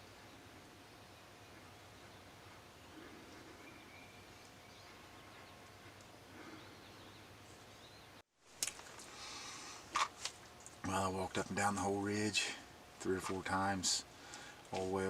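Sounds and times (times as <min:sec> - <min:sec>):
woodland ambience: 0:00.0 - 0:15.0.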